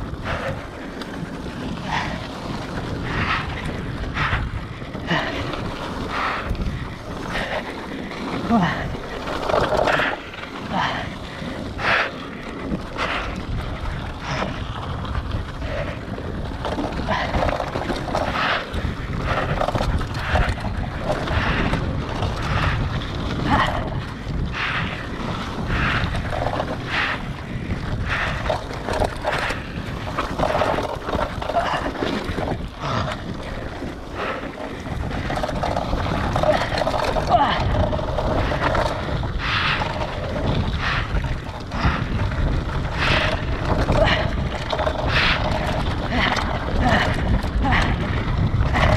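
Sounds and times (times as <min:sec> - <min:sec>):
bike rattling over bumps: 0:00.0 - 0:48.9
bike tyres rumbling on dirt: 0:00.0 - 0:48.9
wind buffeting microphone: 0:00.0 - 0:48.9.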